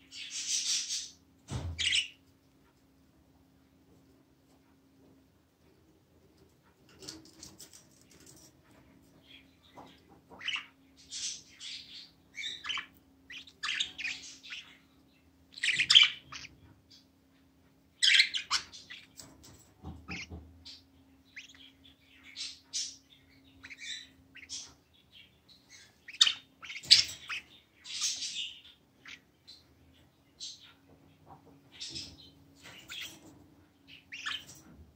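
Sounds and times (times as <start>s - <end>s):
budgerigars chirping and squawking: 0.0s - 2.2s, 6.9s - 17.1s, 17.9s - 34.8s.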